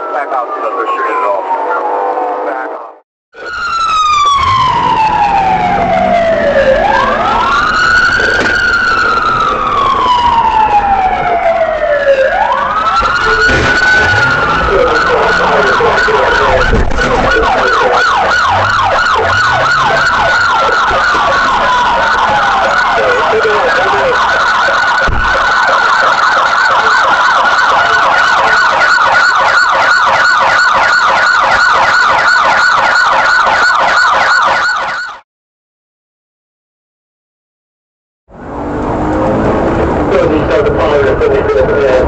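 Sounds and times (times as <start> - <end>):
police siren yelp: 0.0 - 2.8, 3.4 - 35.2
siren wail: 0.0 - 35.2, 38.3 - 42.0.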